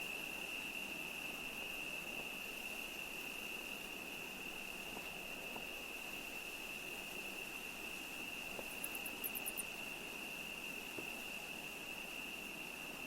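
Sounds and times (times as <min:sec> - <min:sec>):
cricket trilling: 0:00.0 - 0:13.0
faint background hiss: 0:00.0 - 0:13.0.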